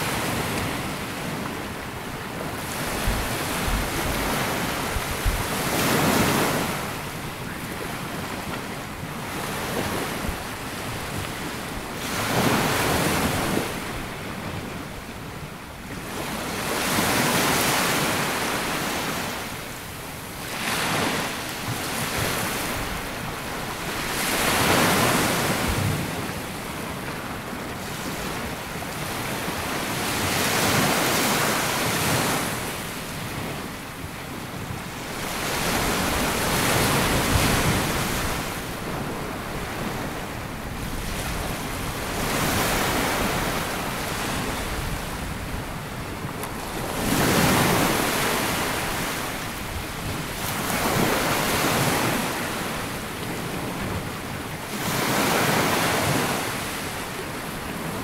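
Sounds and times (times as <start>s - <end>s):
sea waves breaking on sandy beach: 0.0s - 58.0s.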